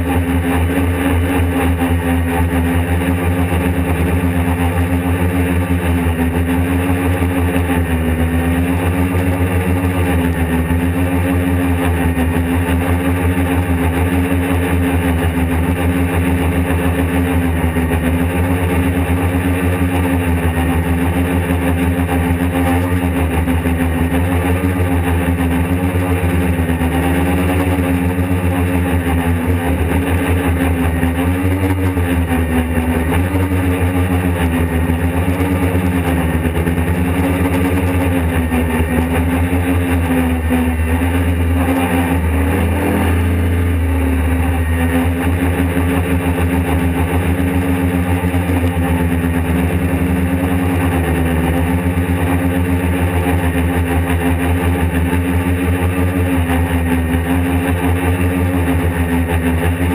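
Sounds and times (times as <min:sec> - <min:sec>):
drone motors humming: 0:00.0 - 0:59.9.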